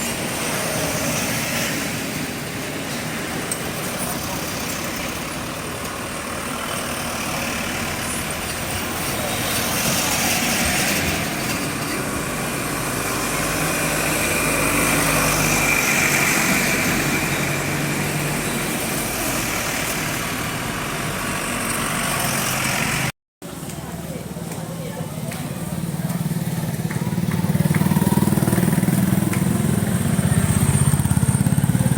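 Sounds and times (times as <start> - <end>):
outdoor noise: 0.0 - 31.9.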